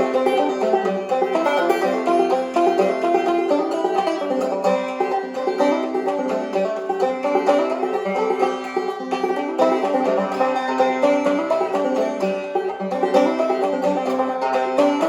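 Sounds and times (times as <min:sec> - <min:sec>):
banjo played clawhammer style: 0:00.0 - 0:15.0.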